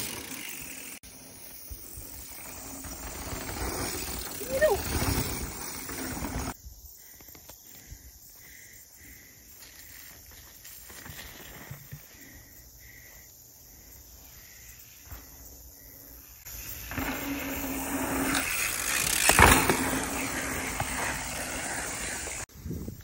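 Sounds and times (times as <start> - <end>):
mountain bike tyres on dirt trail: 0.0 - 23.0.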